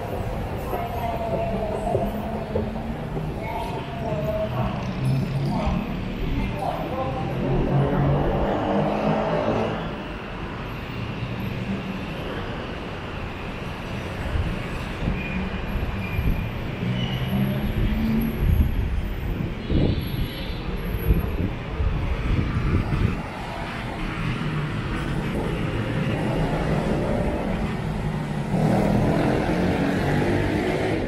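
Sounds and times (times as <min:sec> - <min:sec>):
city traffic noise: 0:00.0 - 0:31.0.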